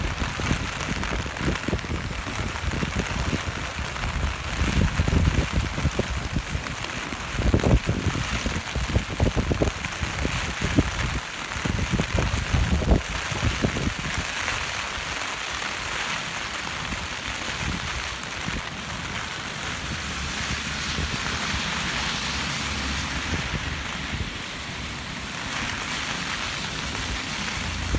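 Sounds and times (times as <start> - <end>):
wind buffeting microphone: 0.0 - 15.2, 16.8 - 27.9
heavy rain: 0.0 - 27.9.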